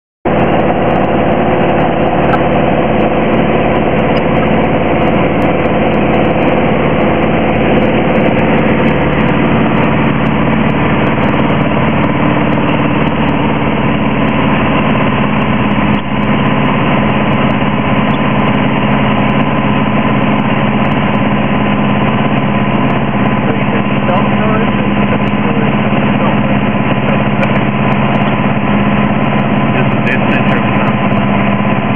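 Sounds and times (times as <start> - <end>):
propeller engine droning: 0.2 - 31.9.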